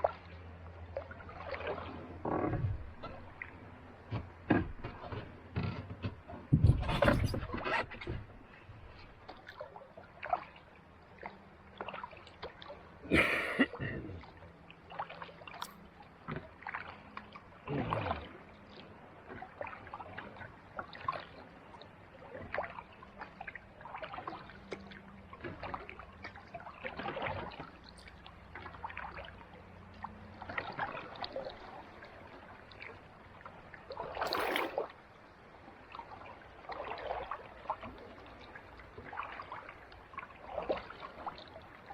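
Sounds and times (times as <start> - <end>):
paddle splashing in water: 0.0 - 41.9.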